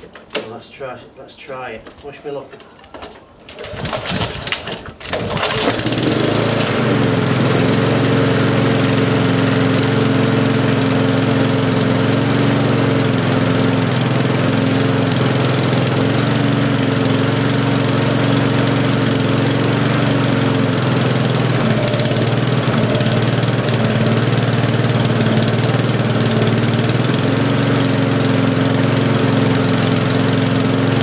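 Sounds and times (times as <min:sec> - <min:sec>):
lawnmower engine running: 0:03.5 - 0:31.0.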